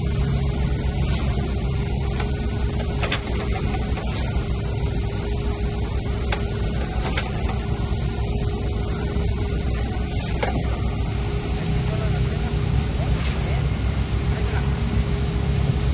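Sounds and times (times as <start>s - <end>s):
heavy machinery engine rumbling: 0.0s - 15.9s.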